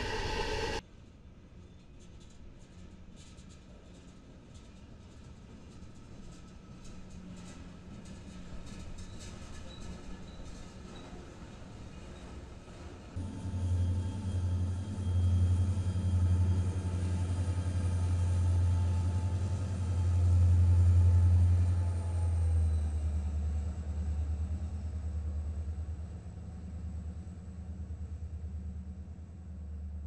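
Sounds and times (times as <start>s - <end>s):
diesel locomotive engine rumble: 0.0s - 0.8s, 6.5s - 30.0s.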